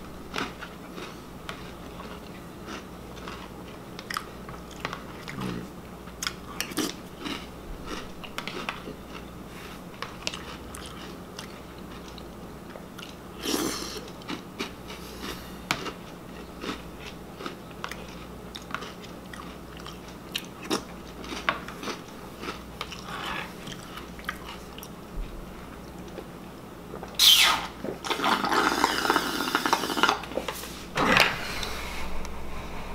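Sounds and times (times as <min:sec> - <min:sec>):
chewing and crunching cereal: 0:00.3 - 0:26.3, 0:27.8 - 0:30.7.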